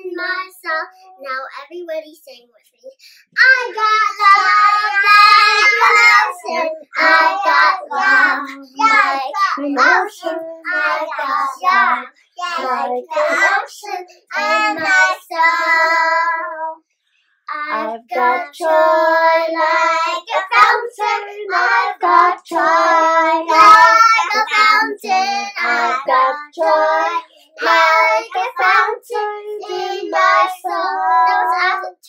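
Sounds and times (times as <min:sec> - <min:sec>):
young children singing: 0:00.0 - 0:00.9, 0:03.4 - 0:16.8, 0:17.5 - 0:32.0.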